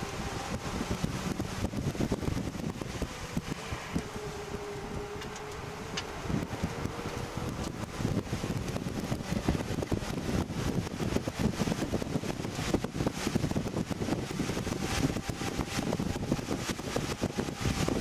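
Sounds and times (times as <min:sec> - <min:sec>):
car engine accelerating hard: 0:00.0 - 0:18.0
road and wind noise: 0:00.0 - 0:18.0.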